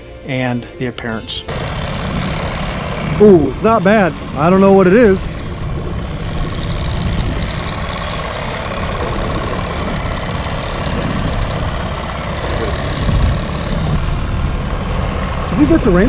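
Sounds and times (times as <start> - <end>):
boat motor rumbling: 0.0 - 16.0
faint steady whine: 0.0 - 16.0.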